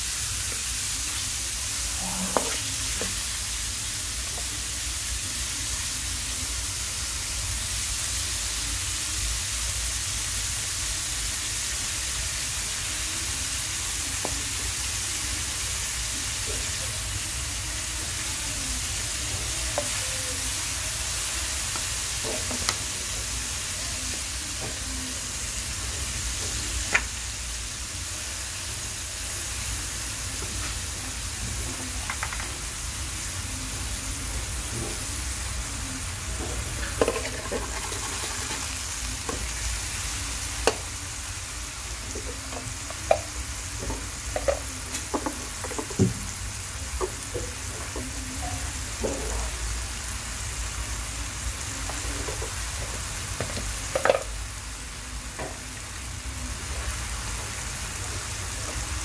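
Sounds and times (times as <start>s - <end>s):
beef sizzling in oil: 0.0s - 59.0s.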